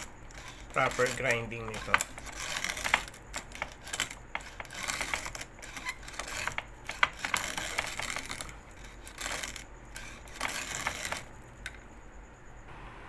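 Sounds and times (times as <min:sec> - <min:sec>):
coffee beans crunching in grinder: 0:00.0 - 0:11.4.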